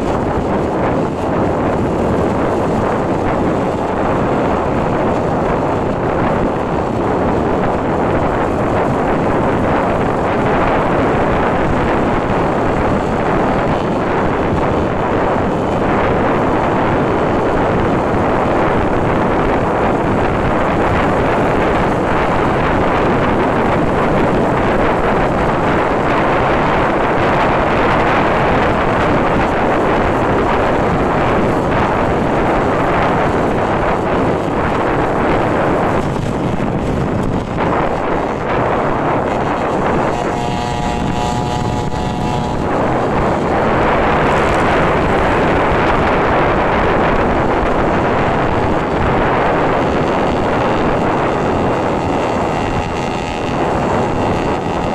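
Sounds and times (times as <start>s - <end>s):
motorcycle road noise: 0.0s - 54.9s
wind buffeting microphone: 0.0s - 54.9s.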